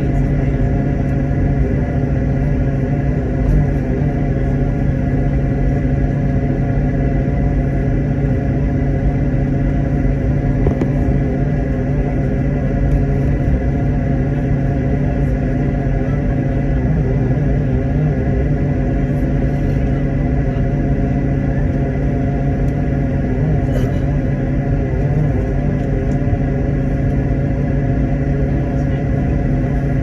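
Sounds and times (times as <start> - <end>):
aircraft engine cabin rumble: 0.0 - 30.0.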